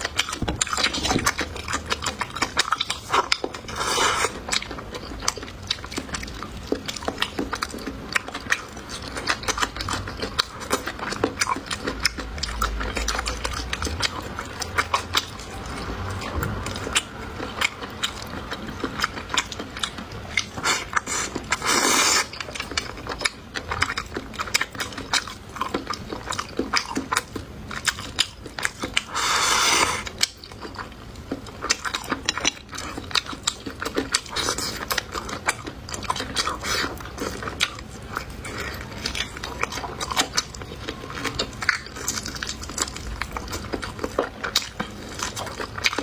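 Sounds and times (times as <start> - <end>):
person crunching food: 0.0 - 46.0.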